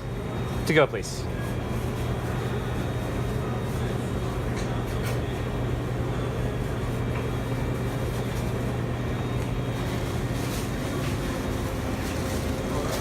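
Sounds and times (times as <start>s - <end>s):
muffled background noise: 0.0s - 13.0s
steady low hum: 0.0s - 13.0s.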